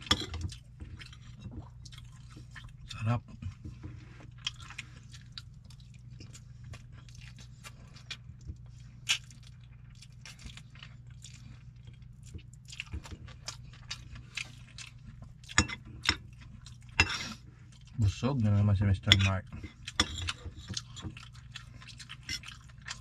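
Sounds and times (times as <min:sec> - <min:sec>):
person chewing and crunching food: 0:00.0 - 0:23.0
steady low hum: 0:00.0 - 0:23.0.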